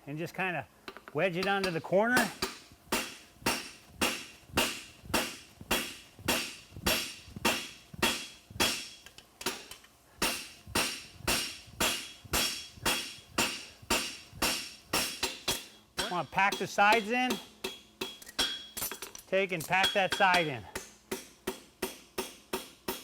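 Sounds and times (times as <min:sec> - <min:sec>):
hammer striking steel on anvil: 0:01.4 - 0:23.0.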